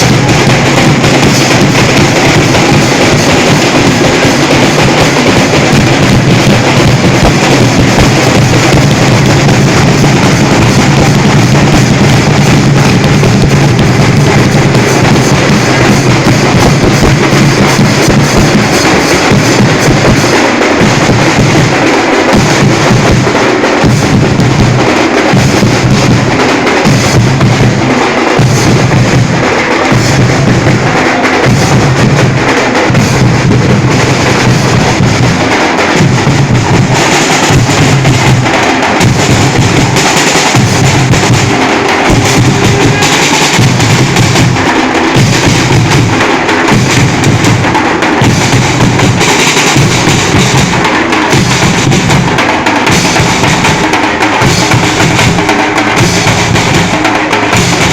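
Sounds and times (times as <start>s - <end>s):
deep drum beats: 0.0s - 57.9s
drum group drumming: 0.0s - 57.9s.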